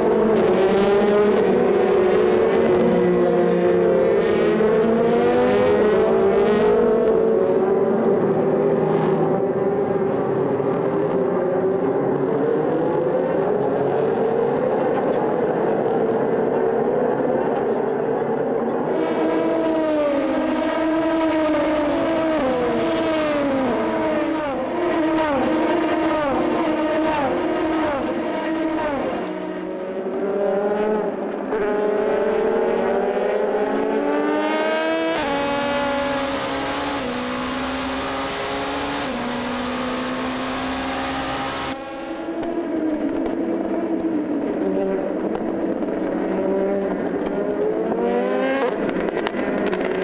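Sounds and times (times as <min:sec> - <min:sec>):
race cars accelerating: 0:00.0 - 0:50.0.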